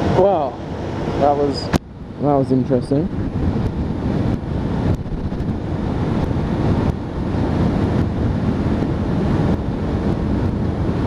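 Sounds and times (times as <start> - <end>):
motorbike running: 0.0 - 11.0
wind rushing over microphone: 0.0 - 11.0.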